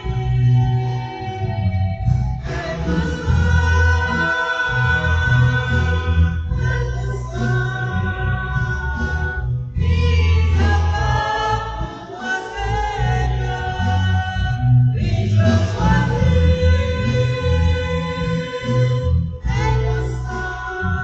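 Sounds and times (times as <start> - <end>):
low steady accompaniment: 0.0 - 21.0
choir singing held notes: 2.4 - 21.0.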